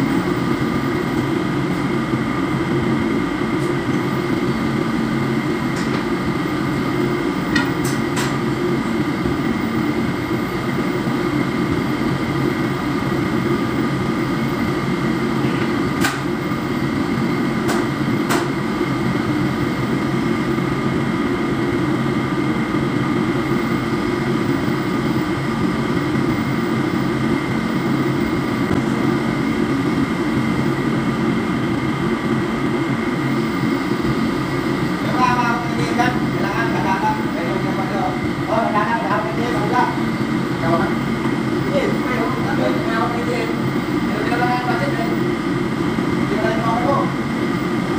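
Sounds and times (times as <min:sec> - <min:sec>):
ship machinery drone: 0:00.0 - 0:47.9.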